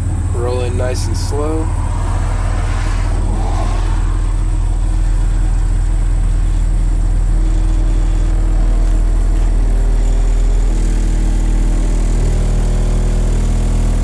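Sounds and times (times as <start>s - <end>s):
low bass test tone: 0.0s - 14.0s.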